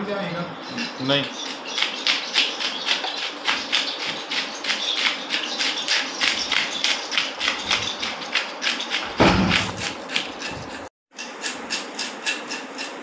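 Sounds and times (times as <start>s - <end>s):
knife scraping fish scales: 1.4s - 13.0s.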